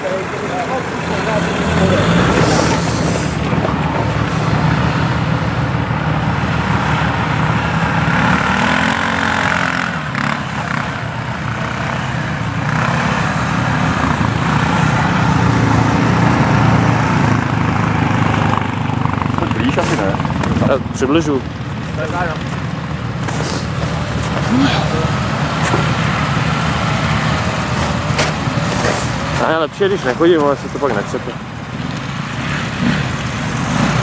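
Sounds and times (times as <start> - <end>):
road and tyre noise: 0.0 - 34.0
vehicle engine drone: 0.0 - 34.0.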